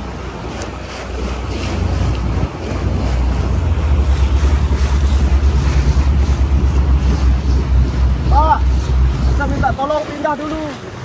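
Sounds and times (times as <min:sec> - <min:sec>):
small boat engine rumbling: 0:00.0 - 0:11.0
water splashing: 0:00.0 - 0:11.0
wind buffeting microphone: 0:00.0 - 0:11.0.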